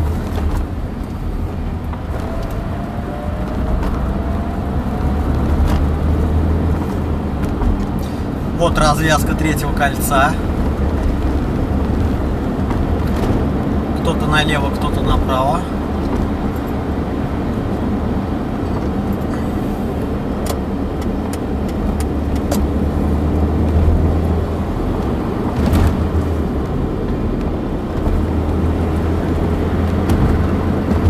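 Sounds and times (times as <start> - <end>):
engine and road rumble: 0.0 - 31.0.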